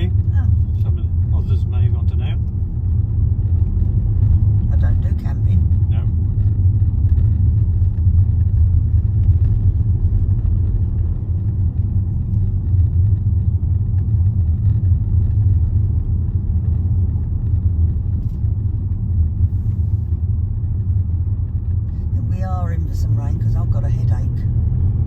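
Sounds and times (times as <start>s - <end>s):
road and engine rumble in car cabin: 0.0s - 25.0s.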